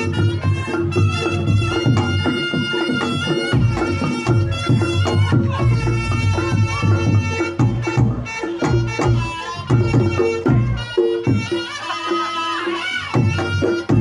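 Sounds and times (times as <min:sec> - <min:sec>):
hand drum strokes: 0:00.0 - 0:12.3
reed shawm melody: 0:00.0 - 0:14.0.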